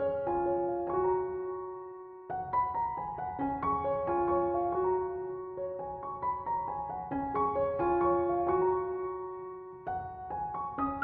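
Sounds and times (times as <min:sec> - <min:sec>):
slow soft piano music: 0:00.0 - 0:11.0.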